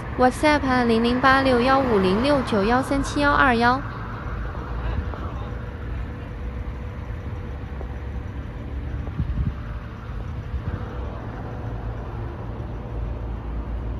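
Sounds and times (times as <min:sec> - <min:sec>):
diesel truck engine idling: 0:00.0 - 0:13.9.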